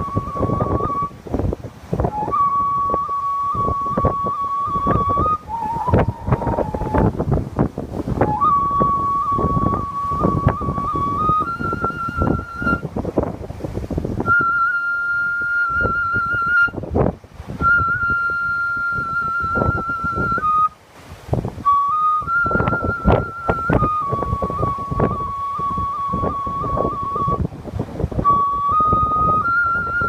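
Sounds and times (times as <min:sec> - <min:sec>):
flute melody: 0:00.0 - 0:01.2, 0:01.9 - 0:13.2, 0:14.2 - 0:16.9, 0:17.5 - 0:20.8, 0:21.6 - 0:30.0
strong wind buffeting microphone: 0:00.0 - 0:30.0.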